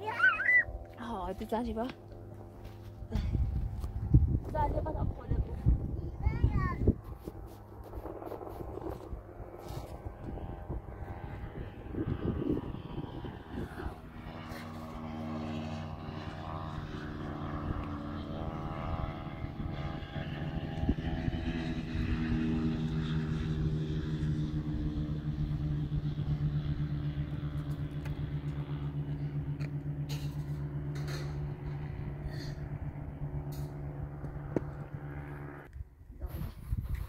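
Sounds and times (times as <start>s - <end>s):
motor engine humming: 0.0s - 35.8s.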